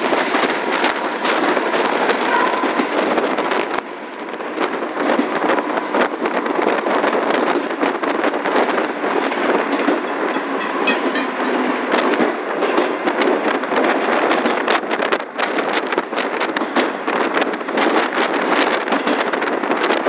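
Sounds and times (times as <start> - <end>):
train clicks and clacks: 0.0 - 20.0
wheels rumbling on rail: 0.0 - 20.0.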